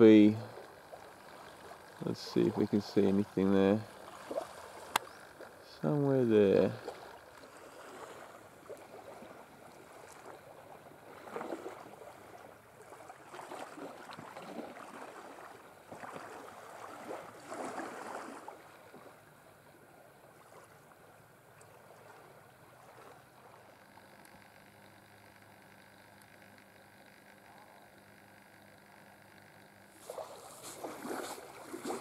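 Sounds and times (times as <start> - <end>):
small waves lapping on beach: 0.0 - 24.3, 29.9 - 32.0.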